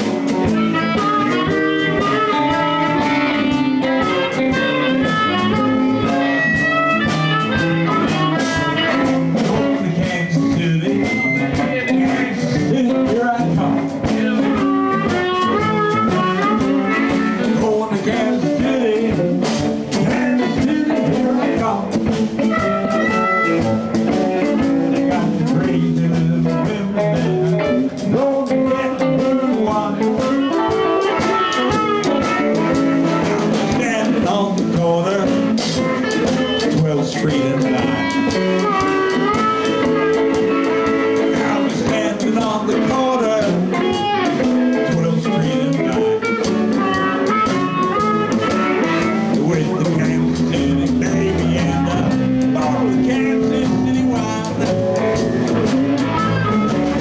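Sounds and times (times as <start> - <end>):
bending electric guitar lead: 0.0 - 57.0
blues band playing: 0.0 - 57.0.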